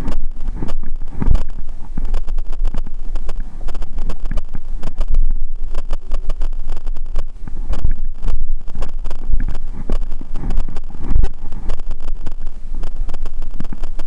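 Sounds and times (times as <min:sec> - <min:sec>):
bike rattling: 0:00.0 - 0:14.0
bike tyres rumbling on boards: 0:00.0 - 0:14.0
wind buffeting microphone: 0:00.0 - 0:14.0.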